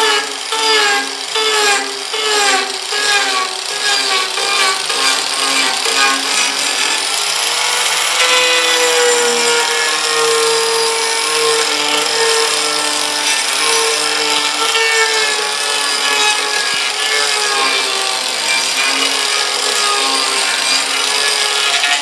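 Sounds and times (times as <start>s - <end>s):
angle grinder motor whine: 0.0s - 22.0s.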